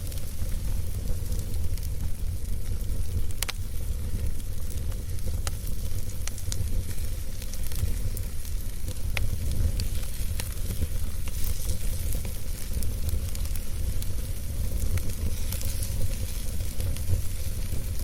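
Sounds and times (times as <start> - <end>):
campfire crackling and popping: 0.0 - 18.0
steady hiss: 0.0 - 18.0.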